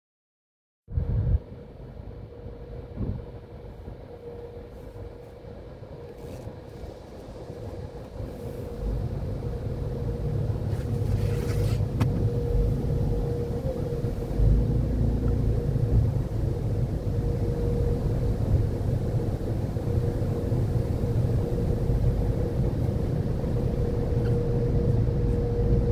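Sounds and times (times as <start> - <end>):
steady hum: 0.9 - 25.9
car wash machinery rumble: 1.4 - 25.9.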